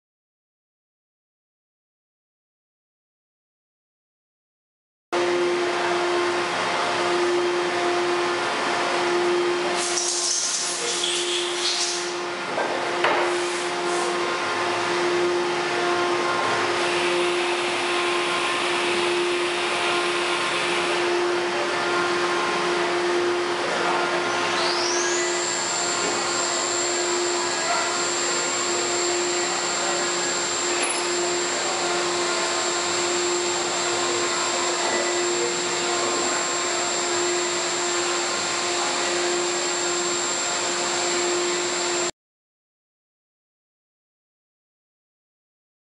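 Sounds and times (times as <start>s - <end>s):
high whine: 5.2s - 42.1s
milling machine motor hum: 5.2s - 42.1s.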